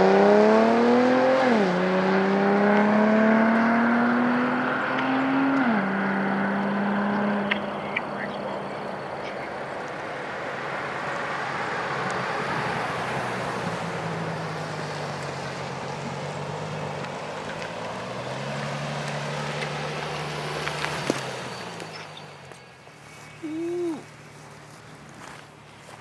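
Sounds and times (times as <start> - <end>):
car engine drone: 0.0 - 26.0
tyre and road noise: 0.0 - 26.0.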